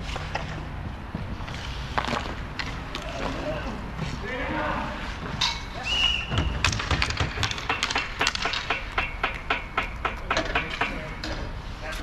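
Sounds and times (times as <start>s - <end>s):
hockey sticks and puck clacking: 0.0s - 12.0s.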